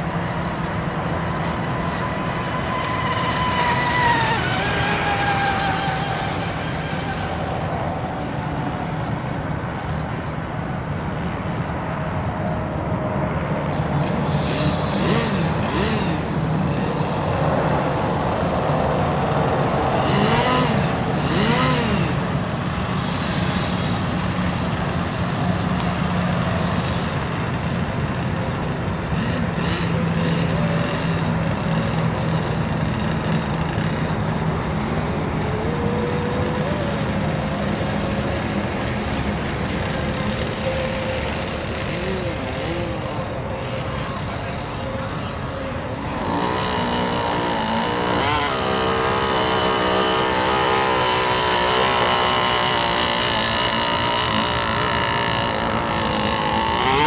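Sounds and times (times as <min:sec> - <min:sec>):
racing boat motors revving: 0:00.8 - 0:08.2, 0:14.0 - 0:57.0.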